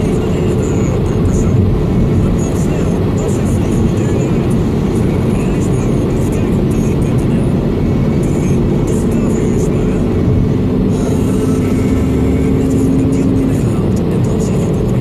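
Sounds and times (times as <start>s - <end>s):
tyre and engine rumble: 0.0s - 15.0s.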